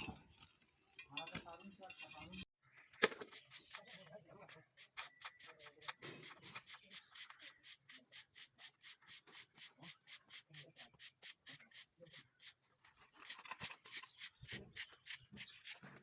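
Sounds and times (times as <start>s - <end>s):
insects chirping: 2.6s - 16.0s.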